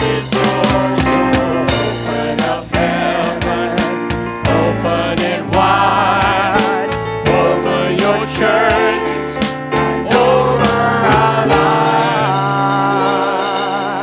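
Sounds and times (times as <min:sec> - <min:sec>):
band playing: 0:00.0 - 0:14.0
drum hits: 0:00.0 - 0:14.0
voices singing worship song: 0:00.0 - 0:14.0.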